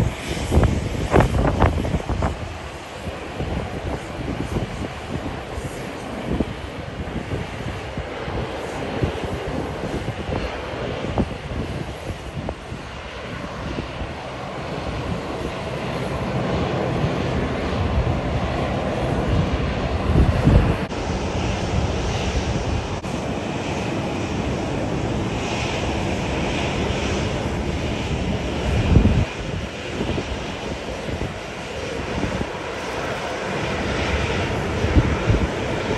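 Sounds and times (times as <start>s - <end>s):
jet airliner rolling out: 0.0s - 35.9s
jet engine rush and hiss: 0.0s - 35.9s.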